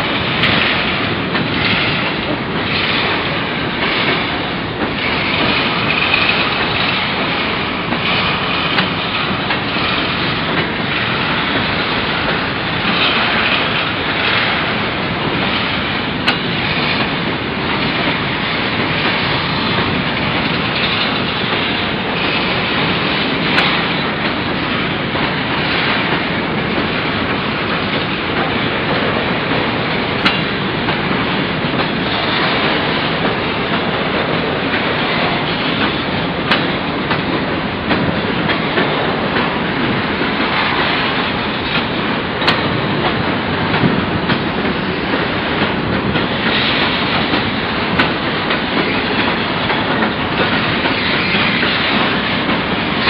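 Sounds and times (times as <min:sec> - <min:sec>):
train wheels rolling on rail: 0:00.0 - 0:53.0.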